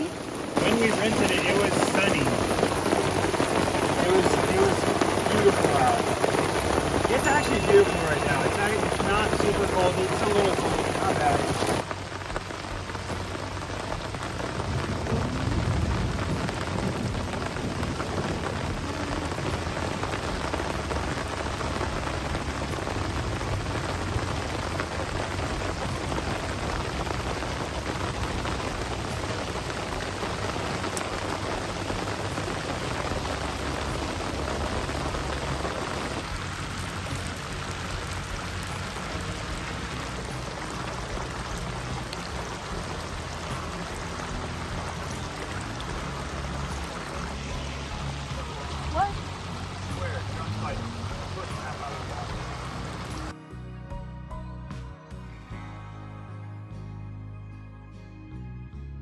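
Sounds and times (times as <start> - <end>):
rain falling on water and boat: 0.0 - 53.4
low rumble: 0.0 - 57.5.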